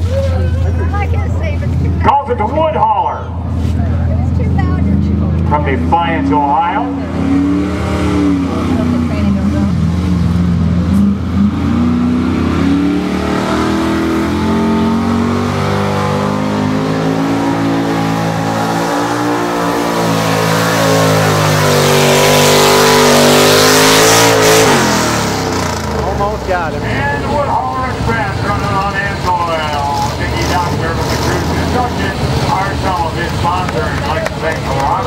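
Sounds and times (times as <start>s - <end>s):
engine at full throttle: 3.5s - 35.0s.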